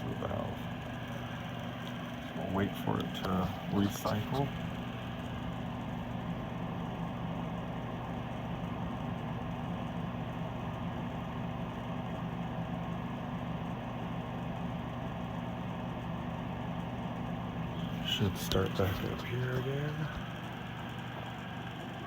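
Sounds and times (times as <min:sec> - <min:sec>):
furnace motor hum: 0:00.0 - 0:22.0.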